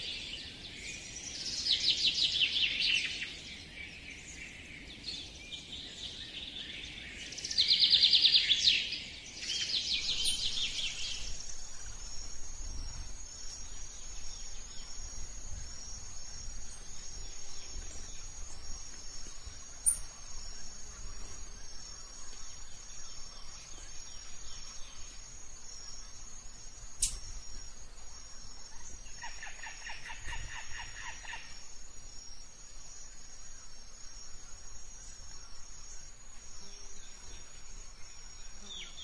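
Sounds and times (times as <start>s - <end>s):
insect chirping: 0.0s - 39.0s.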